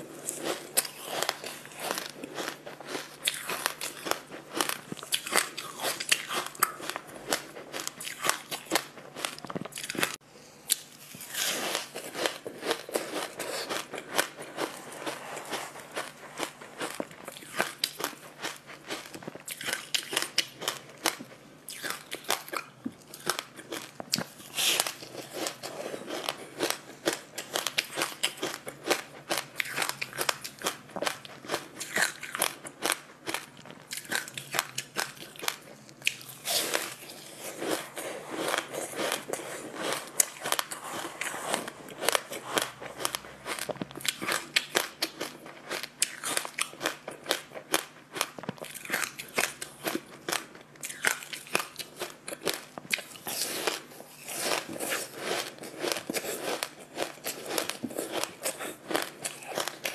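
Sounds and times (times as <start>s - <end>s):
person crunching food: 0.0s - 59.9s.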